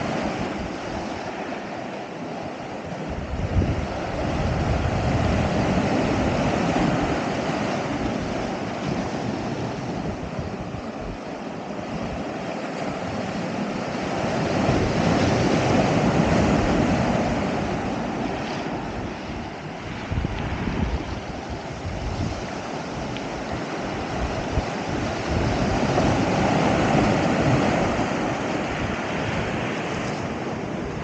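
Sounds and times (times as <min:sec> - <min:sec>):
sea waves washing ashore: 0:00.0 - 0:31.0
wind buffeting microphone: 0:00.0 - 0:31.0.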